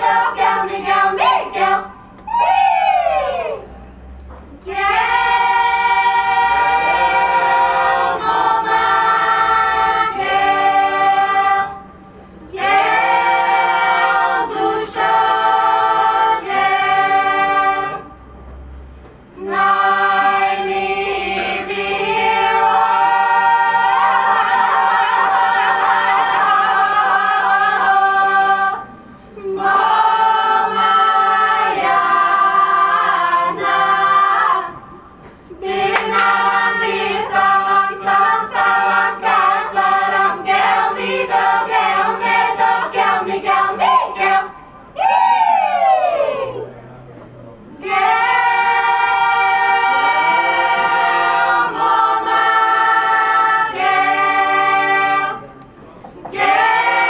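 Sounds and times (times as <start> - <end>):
mixed choir singing a cappella: 0.0 - 3.7, 4.5 - 18.3, 19.2 - 46.8, 47.7 - 57.0.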